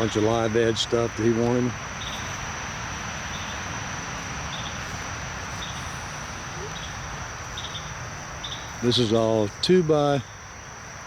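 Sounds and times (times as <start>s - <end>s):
constant hiss: 0.0s - 11.0s
insect drone: 0.0s - 11.0s.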